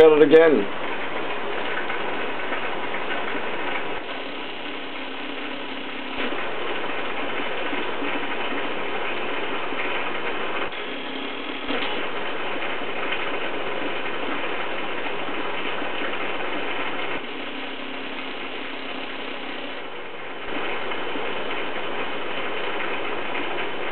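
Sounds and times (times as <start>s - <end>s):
aquarium equipment crackling rattle: 0.0s - 23.9s.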